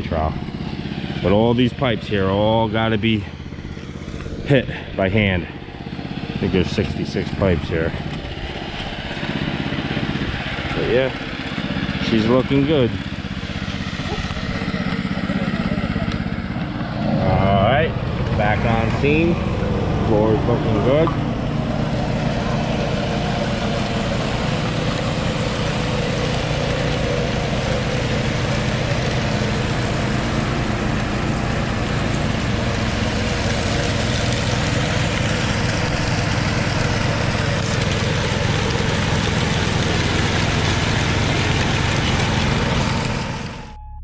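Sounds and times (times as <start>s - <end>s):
power trowel engine running: 0.0s - 43.8s.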